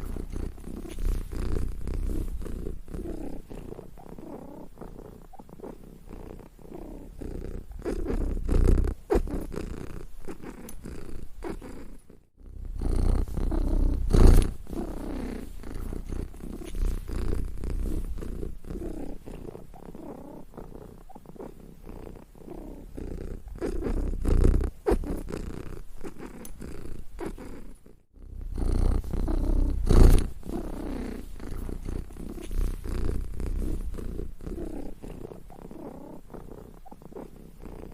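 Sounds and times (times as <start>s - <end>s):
cat purring: 0.0s - 37.9s.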